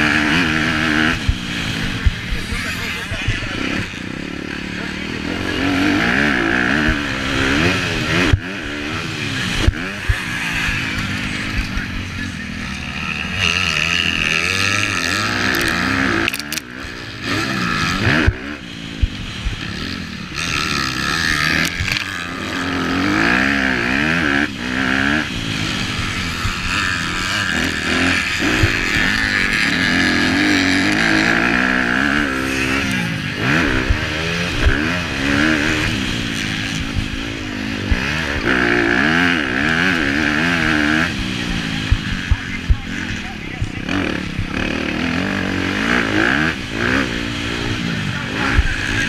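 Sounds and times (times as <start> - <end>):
motocross engine revving: 0.0 - 49.0.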